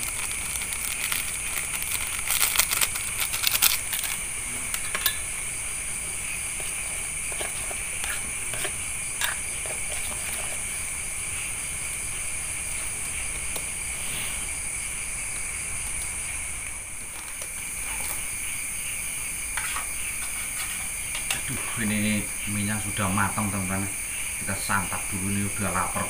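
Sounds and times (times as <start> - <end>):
night insects chorus: 0.0 - 26.0.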